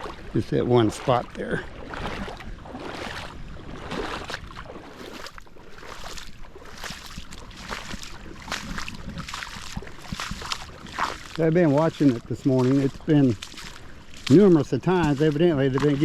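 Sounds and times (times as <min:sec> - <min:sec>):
boots sloshing through water: 0:00.0 - 0:16.0
wind rumble on microphone: 0:00.0 - 0:16.0.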